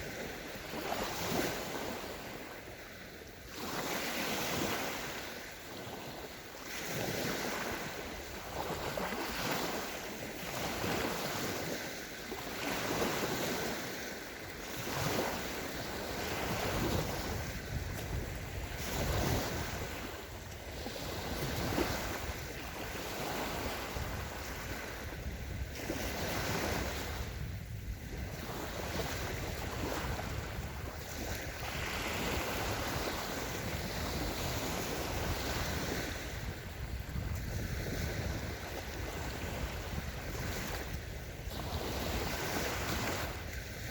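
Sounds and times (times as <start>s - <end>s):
small waves breaking on sand: 0.0s - 43.9s
wind rumbling on microphone: 0.0s - 43.9s.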